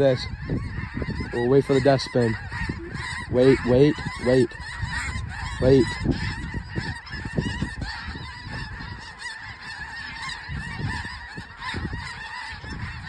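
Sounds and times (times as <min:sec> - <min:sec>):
geese honking: 0:00.0 - 0:13.0
wind buffeting microphone: 0:00.0 - 0:13.0.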